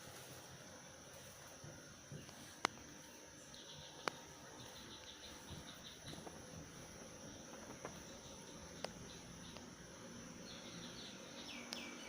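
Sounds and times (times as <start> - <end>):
faint insect drone: 0.0 - 12.0.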